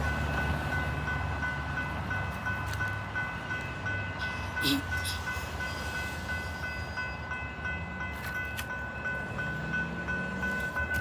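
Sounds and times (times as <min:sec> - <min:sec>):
train engine rumble: 0:00.0 - 0:11.0.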